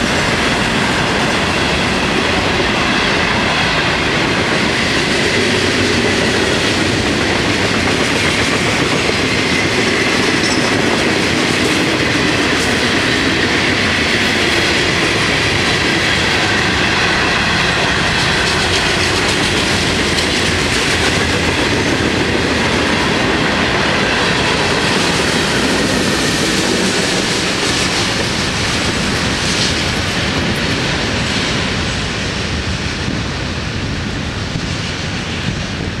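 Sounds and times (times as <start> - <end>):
freight train wheels rumbling on rails: 0.0 - 36.0.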